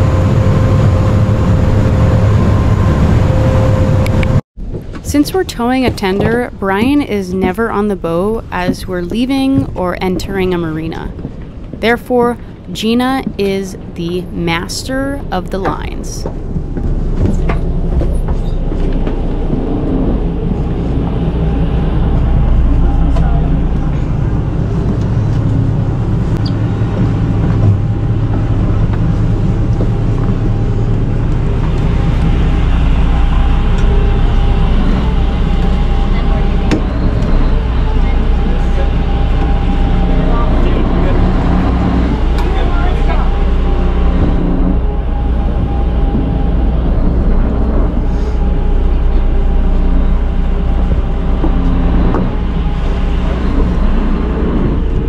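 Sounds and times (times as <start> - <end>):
boat engines low rumble: 0.0 - 55.0
faint hum: 0.0 - 55.0.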